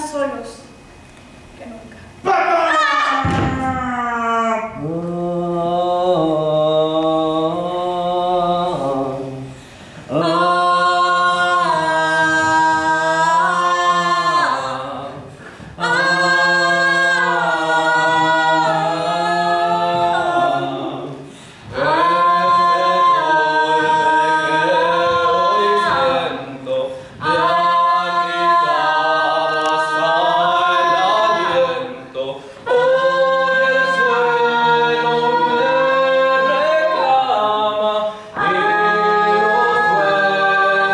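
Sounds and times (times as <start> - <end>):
choir singing a cappella: 4.6 - 40.9.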